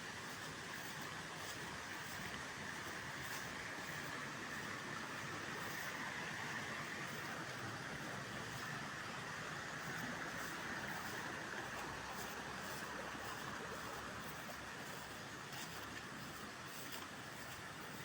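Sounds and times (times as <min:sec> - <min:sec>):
constant hiss: 0:00.0 - 0:18.0.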